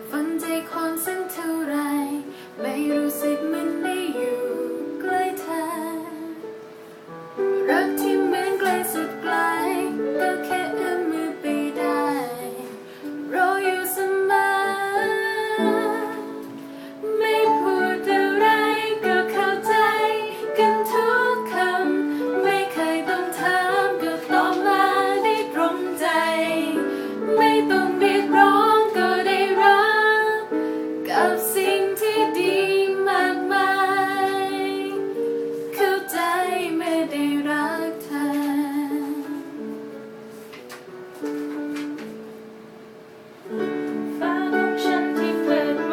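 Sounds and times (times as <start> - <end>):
young female voice singing: 0.0 - 6.6, 7.6 - 35.2, 35.8 - 39.9, 44.0 - 45.9
instrumental accompaniment: 2.5 - 37.3, 38.1 - 45.9.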